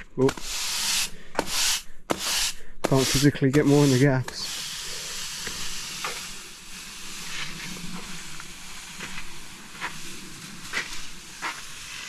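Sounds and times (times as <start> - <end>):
stiff broom sweeping sand: 0.0 - 12.0.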